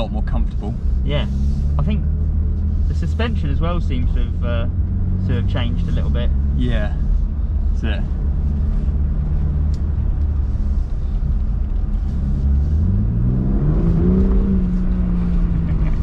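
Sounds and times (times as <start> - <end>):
car engine revving: 0.0 - 16.0
road rumble: 0.0 - 16.0.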